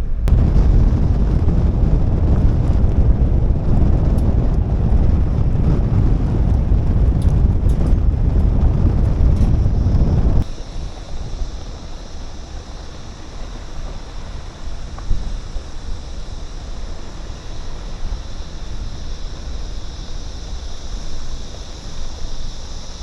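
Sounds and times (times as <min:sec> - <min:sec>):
high-pitched hiss: 0:00.0 - 0:23.0
wind rumbling on microphone: 0:00.0 - 0:23.0.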